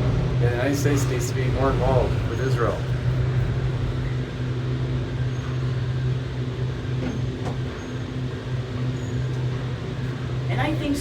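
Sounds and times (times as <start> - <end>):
cable car cabin hum: 0.0 - 11.0.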